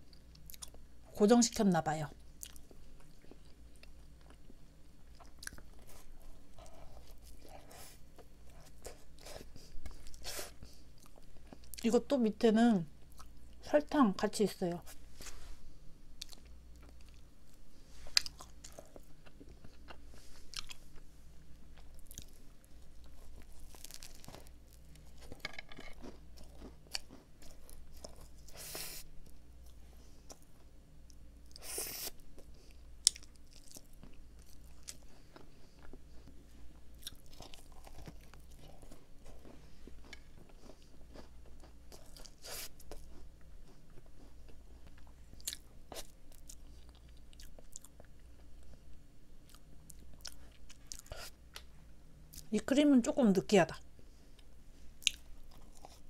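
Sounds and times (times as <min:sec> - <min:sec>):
faint low hum: 0:00.0 - 0:56.0
chewing and crunching: 0:02.4 - 0:11.9, 0:16.2 - 0:51.7, 0:54.3 - 0:56.0.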